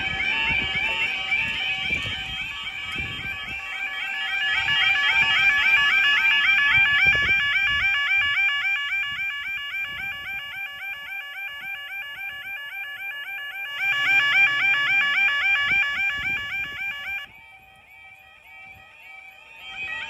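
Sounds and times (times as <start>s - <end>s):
level crossing yelp alarm: 0.0s - 20.0s.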